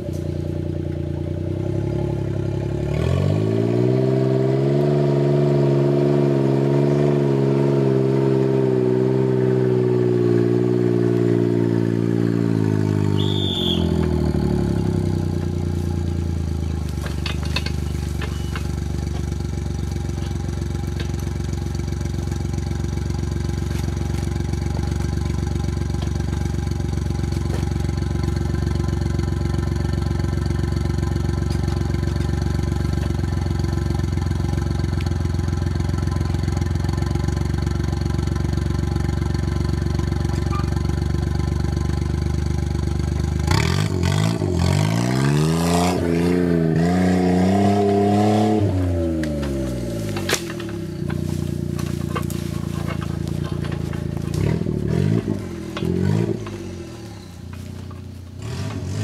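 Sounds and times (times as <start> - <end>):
car engine idling: 0.0 - 59.0
car engine revving: 0.0 - 59.0.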